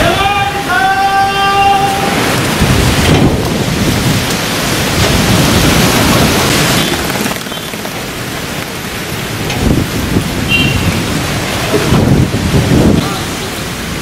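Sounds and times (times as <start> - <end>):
rain: 0.0 - 14.0
storm wind through tree branches: 0.0 - 14.0.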